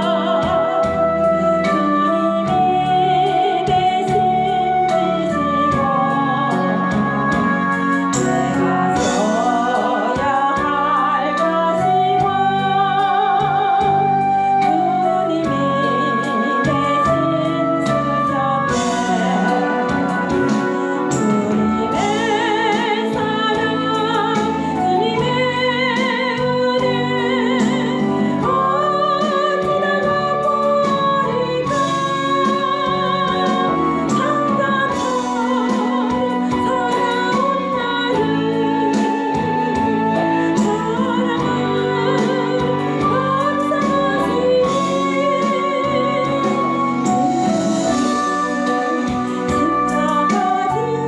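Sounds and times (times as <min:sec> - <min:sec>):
instrumental accompaniment: 0:00.0 - 0:51.0
person singing with wide vibrato: 0:00.0 - 0:51.0.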